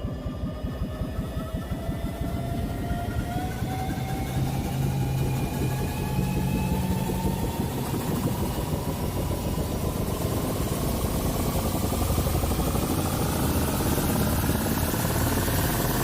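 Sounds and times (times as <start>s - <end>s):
fluttering rumble: 0.0s - 16.0s
low hum: 0.0s - 16.0s
thin rising whine: 0.0s - 16.0s.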